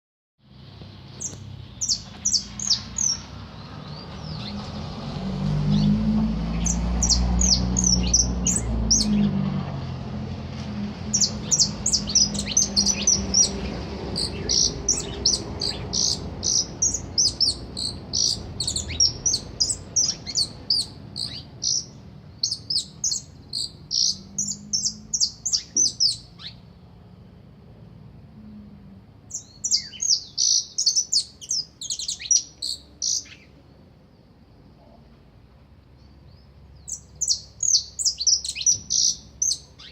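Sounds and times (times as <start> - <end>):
songbird singing: 0.4 - 39.9.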